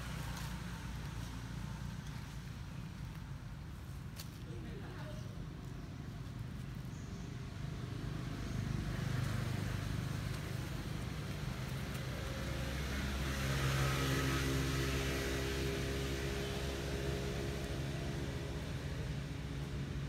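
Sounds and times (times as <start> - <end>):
engine low hum: 0.0 - 20.0.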